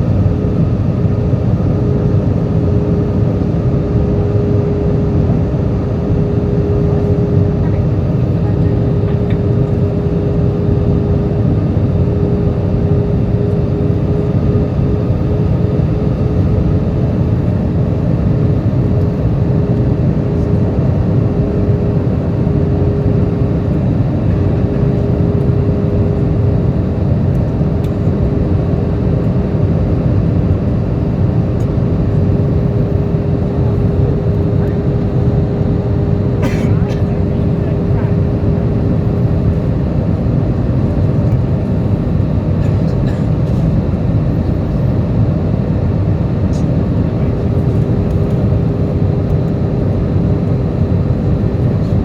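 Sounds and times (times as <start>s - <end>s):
airplane cabin engine rumble: 0.0s - 52.0s
constant hum: 0.0s - 52.0s.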